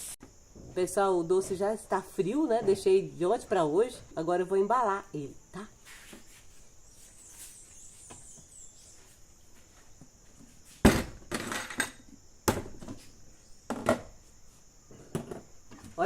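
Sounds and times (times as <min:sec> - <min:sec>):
faint high hiss: 0:00.0 - 0:16.0.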